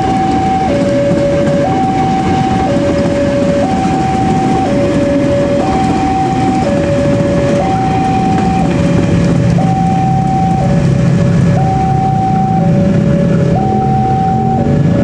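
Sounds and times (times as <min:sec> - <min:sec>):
electric train passing: 0:00.0 - 0:15.0
two-tone crossing alarm: 0:00.0 - 0:15.0.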